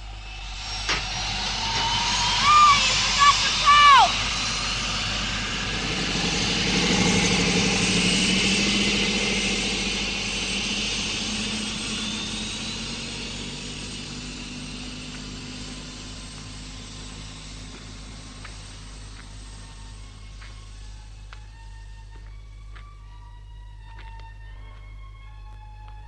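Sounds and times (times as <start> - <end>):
hovercraft engines droning: 0.0 - 26.0.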